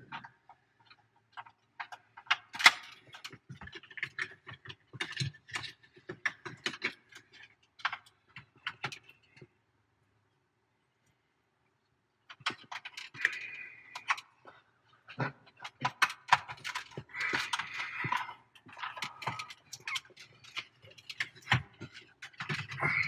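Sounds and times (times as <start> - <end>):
plastic creaking and scraping: 0.0 - 9.5, 12.3 - 23.0.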